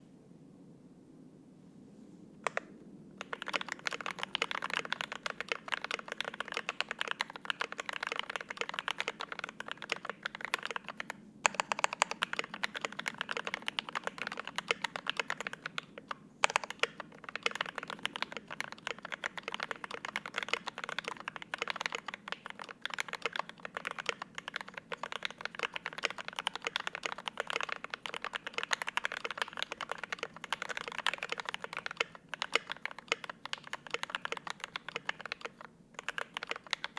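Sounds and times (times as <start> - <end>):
fast mechanical keyboard typing: 3.2 - 36.9.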